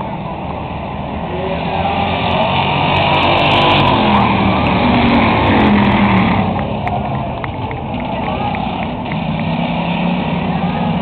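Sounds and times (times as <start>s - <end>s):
stock car engines racing: 0.0s - 11.0s.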